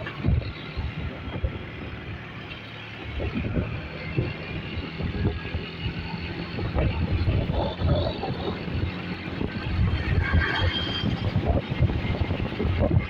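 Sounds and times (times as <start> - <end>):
low vehicle hum: 0.0 - 13.0
wind buffeting microphone: 0.0 - 13.0.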